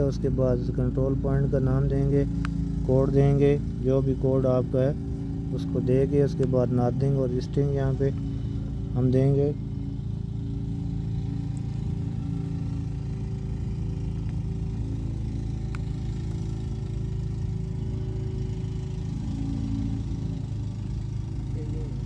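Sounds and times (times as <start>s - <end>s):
engine droning steadily: 0.0s - 22.0s.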